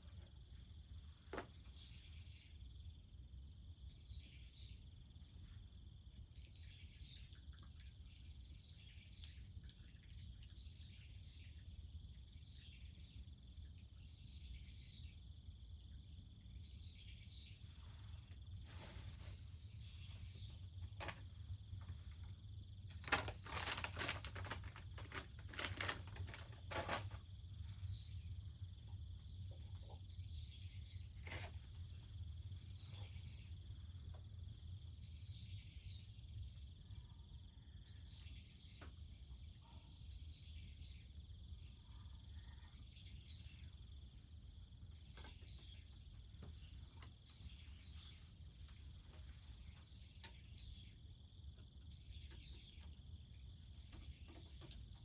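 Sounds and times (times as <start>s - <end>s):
insect drone: 10.6s - 55.0s.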